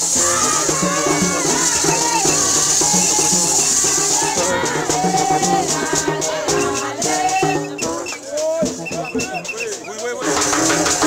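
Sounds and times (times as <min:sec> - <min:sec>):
group singing: 0:00.0 - 0:11.0
shaken rattle: 0:00.0 - 0:11.0.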